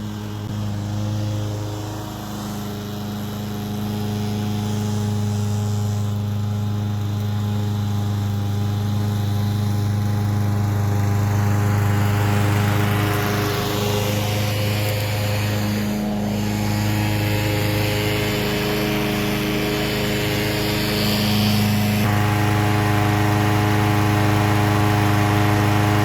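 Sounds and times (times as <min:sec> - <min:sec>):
push mower engine running: 0:00.0 - 0:26.0.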